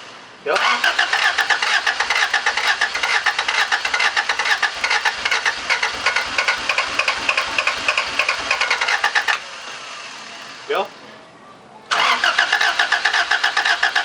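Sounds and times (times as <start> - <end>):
engine cranking by starter motor: 0.5 - 10.8, 11.9 - 14.0.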